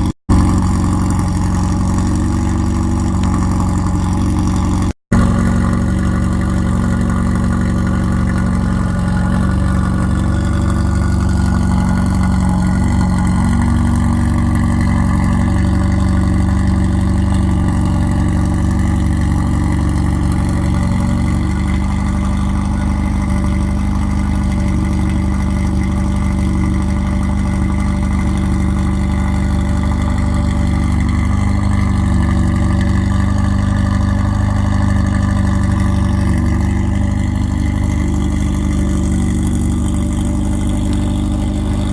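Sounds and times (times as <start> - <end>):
car engine idling loudly: 0.0 - 41.9
other car engines idling: 0.0 - 41.9.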